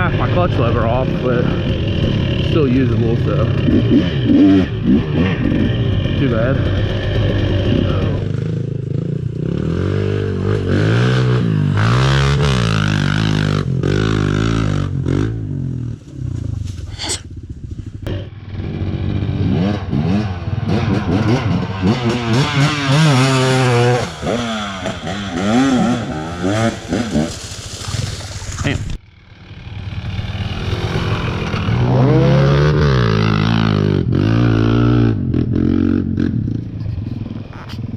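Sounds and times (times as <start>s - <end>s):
dirt bike engine revving: 0.0s - 36.8s.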